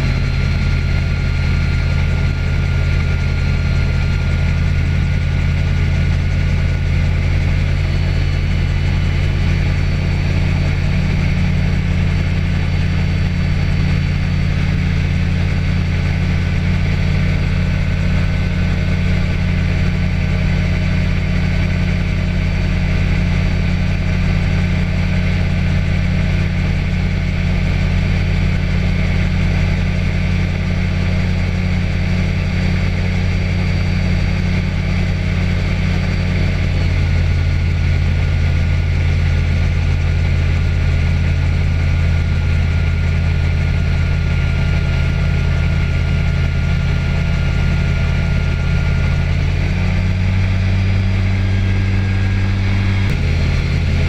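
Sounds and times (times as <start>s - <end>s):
small aircraft engine drone: 0.0s - 54.0s.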